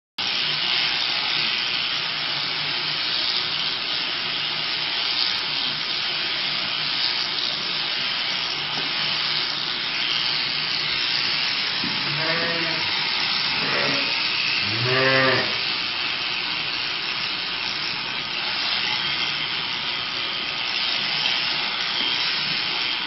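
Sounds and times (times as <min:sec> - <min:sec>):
electric shears buzzing: 0:00.2 - 0:23.0.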